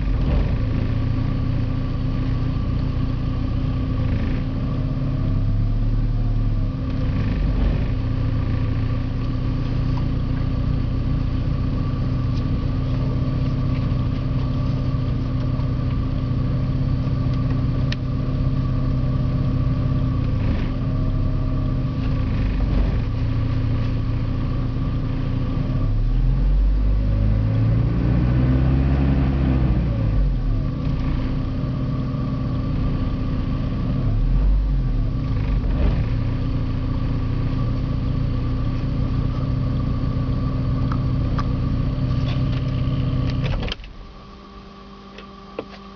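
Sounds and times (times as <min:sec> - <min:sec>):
car engine idling roughly: 0:00.0 - 0:26.2, 0:30.2 - 0:44.4.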